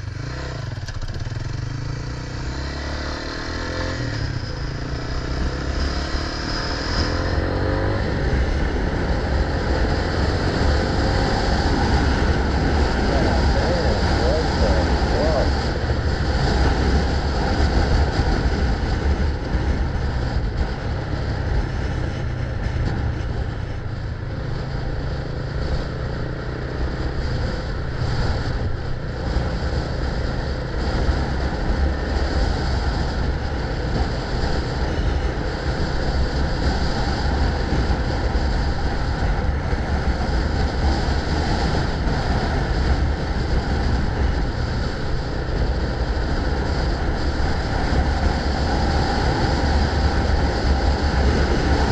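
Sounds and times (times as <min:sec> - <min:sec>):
road noise: 0:00.0 - 0:51.9
wind rushing over microphone: 0:00.0 - 0:51.9.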